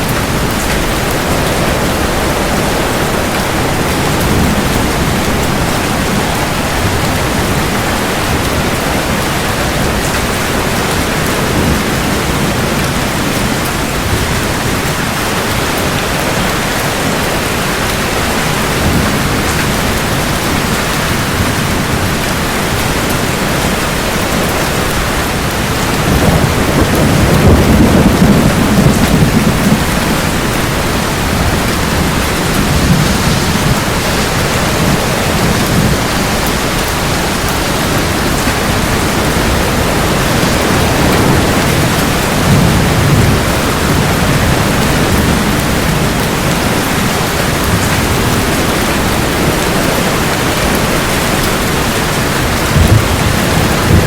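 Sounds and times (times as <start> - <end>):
heavy rain: 0.0 - 54.0
thunder rumbling: 0.0 - 54.0.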